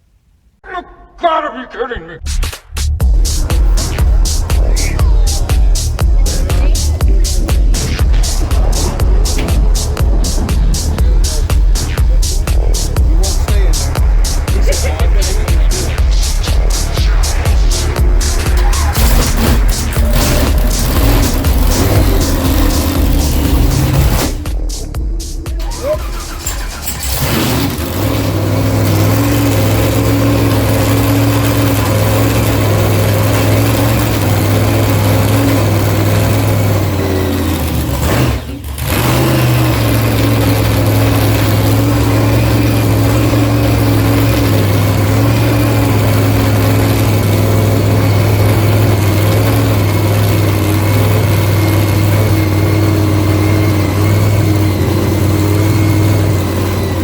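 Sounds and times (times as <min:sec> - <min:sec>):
vehicle engine running: 0:02.2 - 0:57.0.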